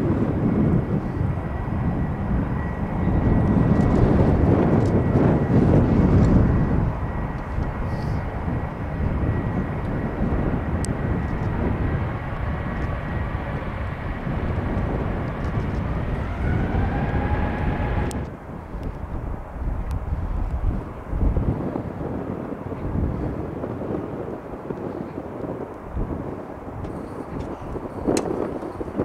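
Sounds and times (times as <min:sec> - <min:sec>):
jet engines rumbling with whine: 0:00.0 - 0:29.0.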